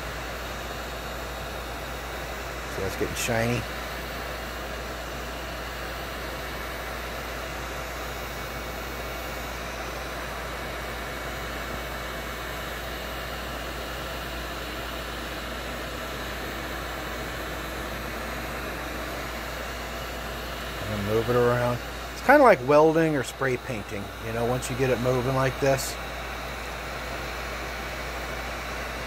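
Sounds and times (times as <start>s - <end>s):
heat gun fan hissing: 0.0s - 29.0s.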